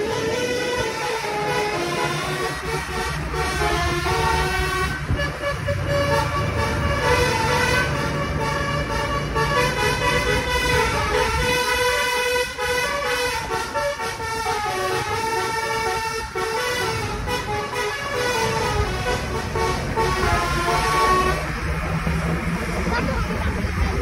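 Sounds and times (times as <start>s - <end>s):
musical air horns playing tune: 0.0s - 21.9s
engine and road rumble: 0.0s - 24.0s.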